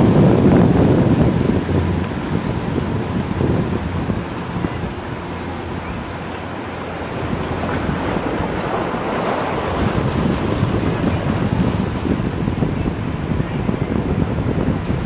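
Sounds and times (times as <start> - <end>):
outboard motors running: 0.0 - 15.0
wake water rushing: 0.0 - 15.0
wind buffeting microphone: 0.0 - 15.0.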